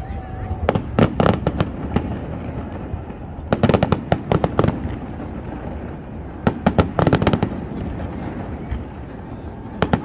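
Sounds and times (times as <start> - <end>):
steady low rumble: 0.0 - 10.0
fireworks crackling bangs: 0.5 - 10.0.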